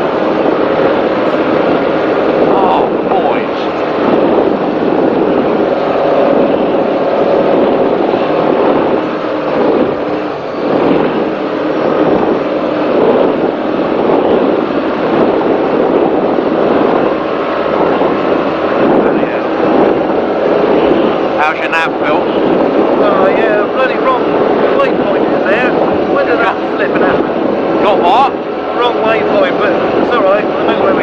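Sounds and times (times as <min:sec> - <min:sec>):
powerboat engine drone: 0:00.0 - 0:31.0
rush of wind and water: 0:00.0 - 0:31.0.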